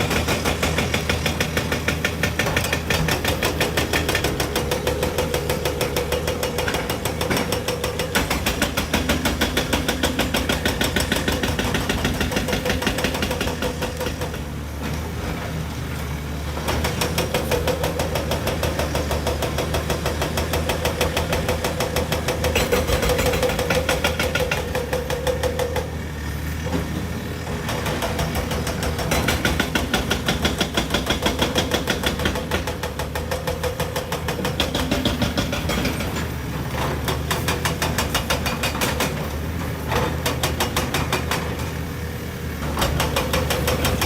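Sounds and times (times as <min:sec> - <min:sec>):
excavator diesel engine under load: 0:00.0 - 0:44.0.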